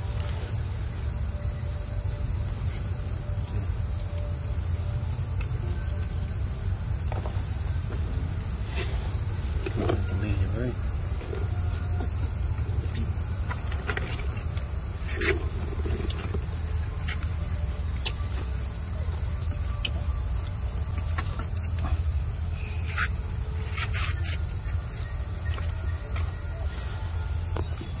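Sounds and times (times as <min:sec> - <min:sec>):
insects chirring: 0:00.0 - 0:28.0.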